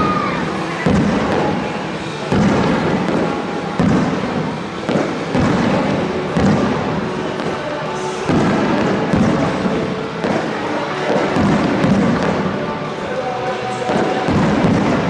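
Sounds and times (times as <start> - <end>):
firework shells bursting: 0.4 - 12.8.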